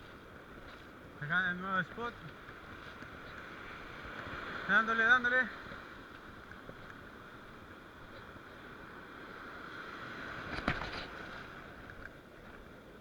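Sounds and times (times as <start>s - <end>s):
sea waves: 0.0s - 13.0s
wind: 0.0s - 13.0s.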